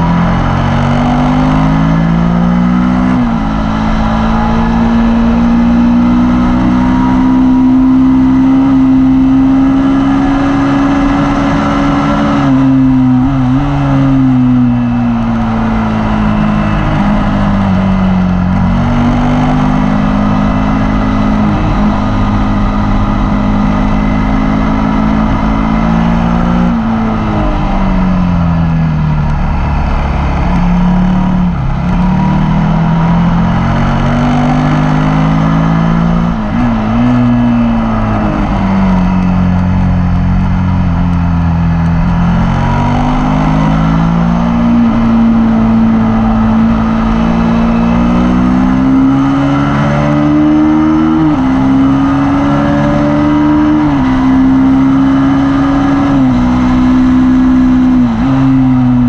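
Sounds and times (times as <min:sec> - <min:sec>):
motorcycle engine revving high: 0:00.0 - 0:59.0.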